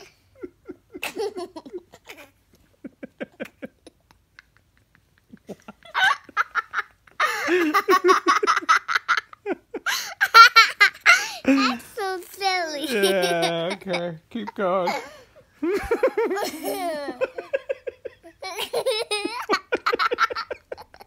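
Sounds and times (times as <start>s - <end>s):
girl laughing: 0.0s - 21.0s.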